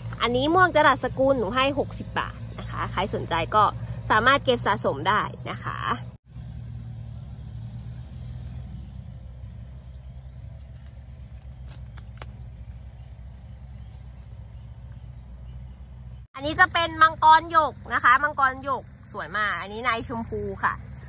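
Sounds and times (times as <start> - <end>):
faint high whine: 0.0 - 21.0
low outdoor rumble: 0.0 - 21.0.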